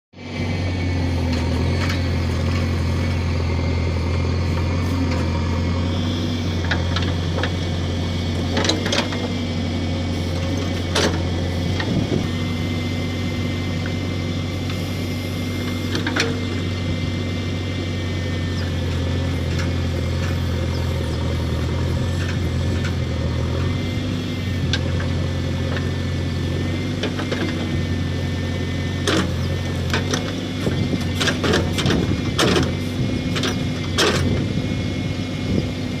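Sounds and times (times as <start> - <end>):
diesel engine running: 0.2 - 36.0.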